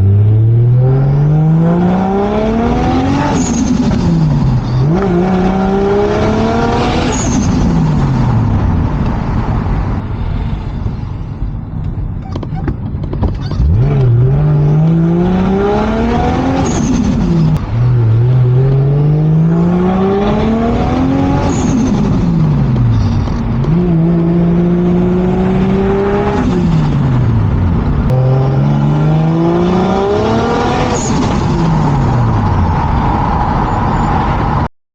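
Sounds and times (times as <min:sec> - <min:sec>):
car engine revving through gears: 0:00.0 - 0:09.0, 0:13.6 - 0:34.7.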